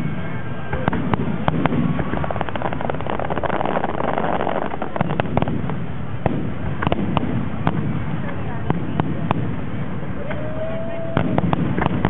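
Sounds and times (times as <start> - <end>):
low rumble: 0.0 - 12.0
fireworks crackling pops: 0.6 - 12.0.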